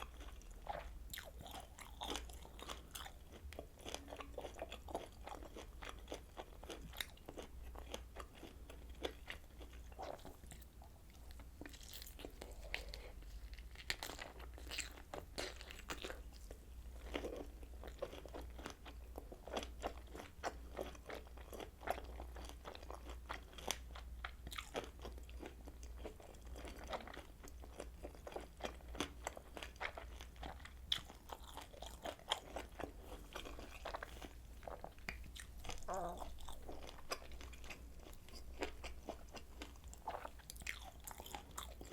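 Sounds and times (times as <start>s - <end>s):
faint low hum: 0.0s - 41.9s
person chewing sausage: 0.0s - 41.9s.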